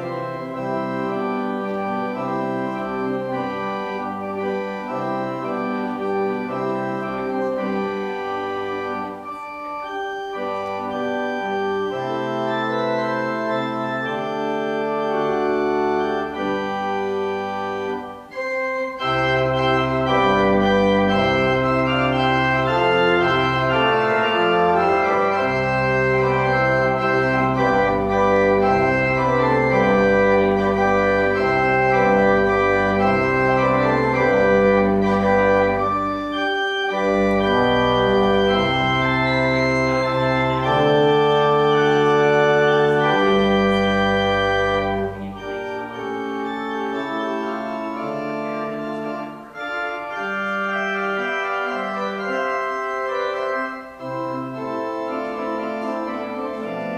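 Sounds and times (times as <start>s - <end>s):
organ chords over moving bass: 0.0s - 56.9s.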